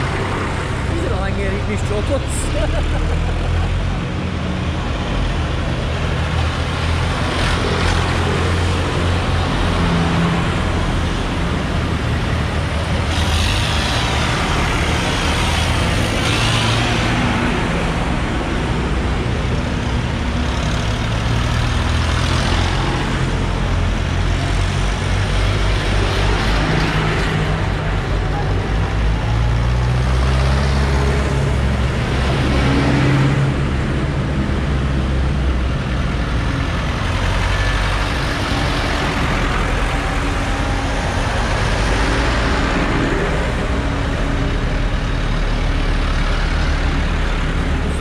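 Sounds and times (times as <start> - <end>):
tractor diesel engine passing: 0.0 - 48.0.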